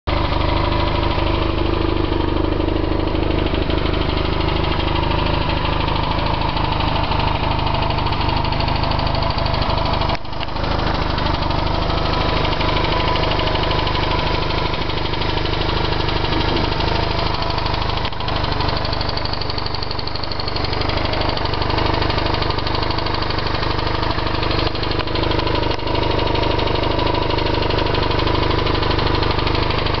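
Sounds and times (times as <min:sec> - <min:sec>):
engine ticking: 0:00.1 - 0:30.0
motorcycle engine idling: 0:00.1 - 0:30.0.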